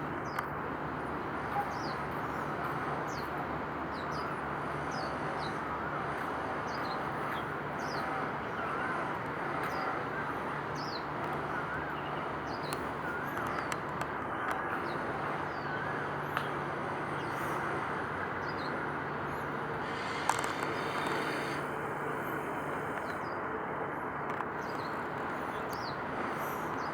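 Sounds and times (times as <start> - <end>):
distant traffic and machinery hum: 0.0 - 26.9.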